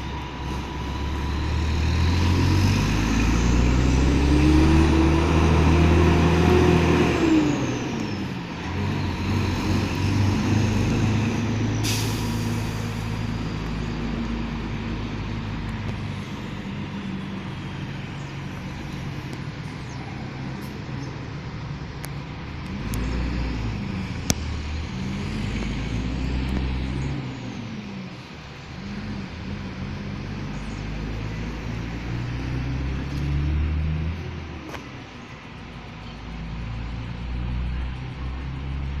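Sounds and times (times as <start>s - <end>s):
bus diesel engine revving: 0.0s - 39.0s.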